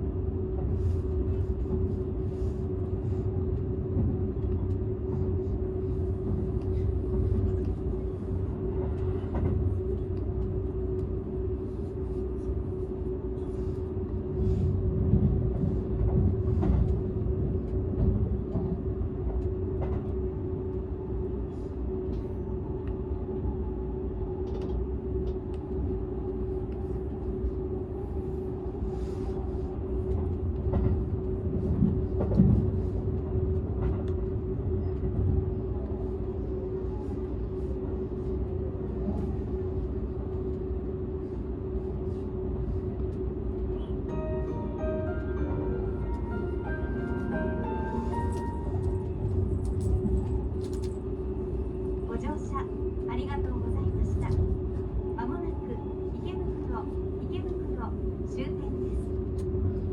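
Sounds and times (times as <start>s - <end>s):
constant hum: 0.0s - 59.9s
train interior rumble: 0.0s - 59.9s.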